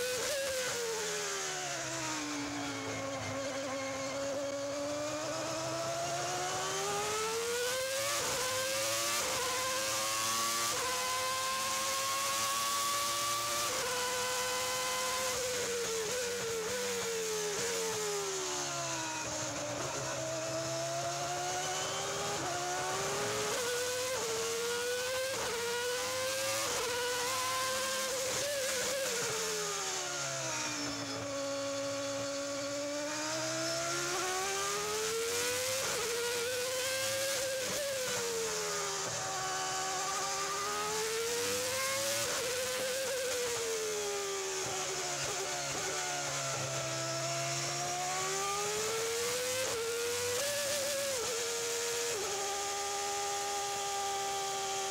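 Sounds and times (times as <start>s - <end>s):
racing car engine revving: 0.0s - 54.9s.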